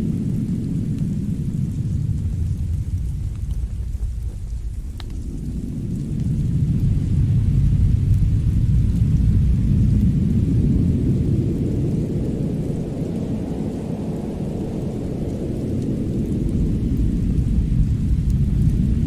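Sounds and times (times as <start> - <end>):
deep steady rumble: 0.0 - 19.0
fireplace crackling: 0.0 - 19.0.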